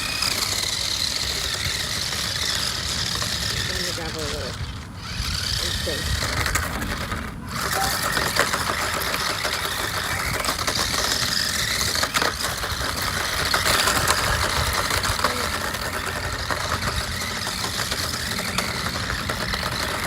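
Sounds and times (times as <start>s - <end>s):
rc car motor whining: 0.0s - 20.0s
wheels crunching over gravel: 0.0s - 20.0s.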